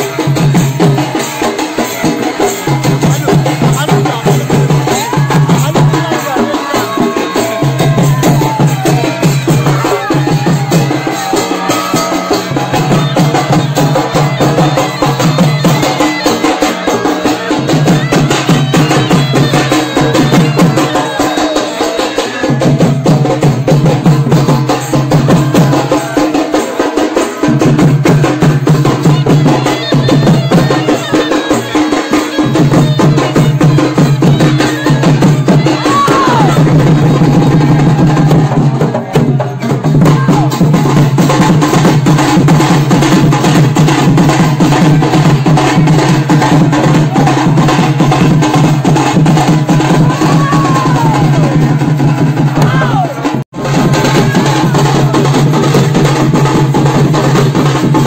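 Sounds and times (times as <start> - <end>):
drum band playing folk rhythm: 0.0 - 58.0
deep pulsing drum beat: 2.0 - 30.9, 32.4 - 58.0.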